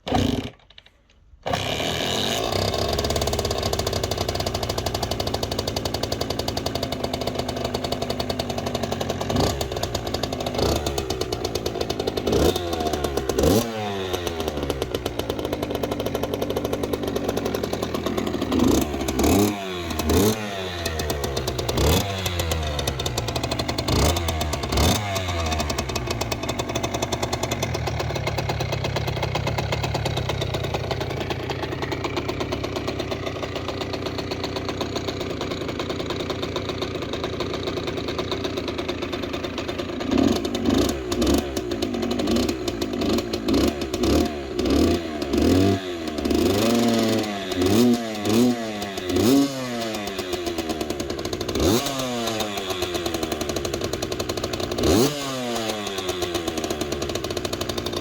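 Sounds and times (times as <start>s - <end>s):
dirt bike engine idling and revving: 1.4s - 58.0s.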